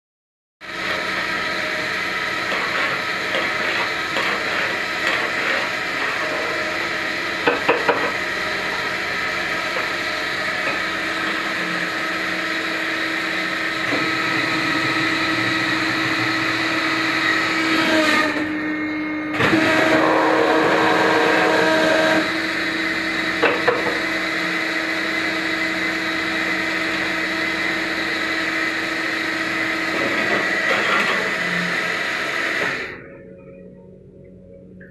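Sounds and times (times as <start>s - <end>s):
machine mechanical hum: 0.7s - 34.9s.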